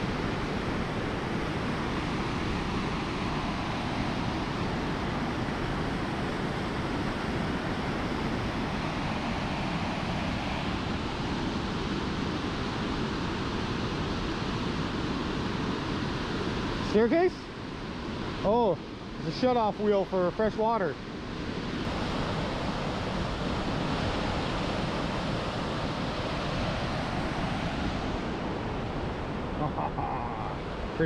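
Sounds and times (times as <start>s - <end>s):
water rushing over dam: 0.0s - 31.0s.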